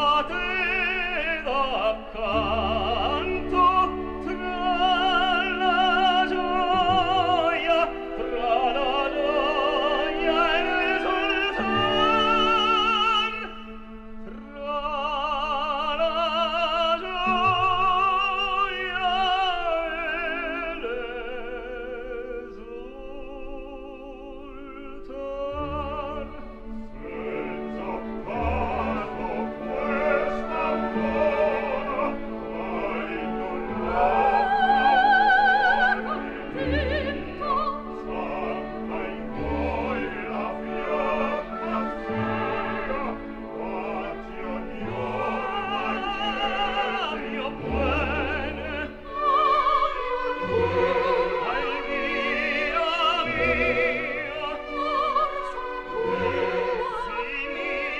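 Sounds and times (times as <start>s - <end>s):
operatic solo voice singing: 0.0s - 57.9s
orchestral accompaniment: 0.0s - 57.9s.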